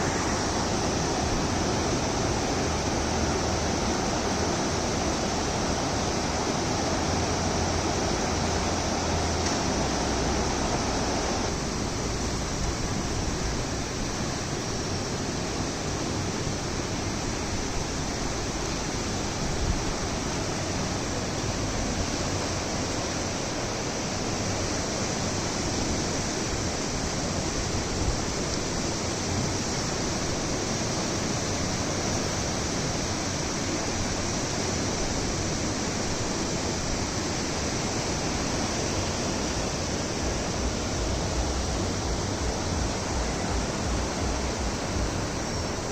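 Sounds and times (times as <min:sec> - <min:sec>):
river water flowing over stones: 0:00.0 - 0:45.9.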